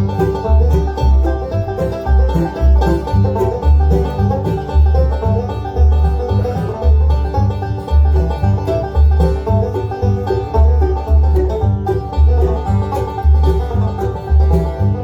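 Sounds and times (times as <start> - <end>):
banjo: 0.0 - 15.0
bass beat: 0.0 - 15.0
guitar: 0.0 - 15.0
mandolin: 0.0 - 15.0.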